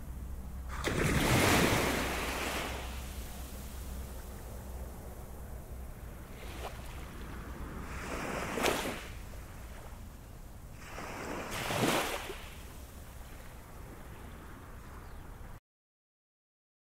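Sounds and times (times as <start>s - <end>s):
low rumble of sea: 0.0s - 15.6s
ocean waves breaking on beach: 0.0s - 15.6s.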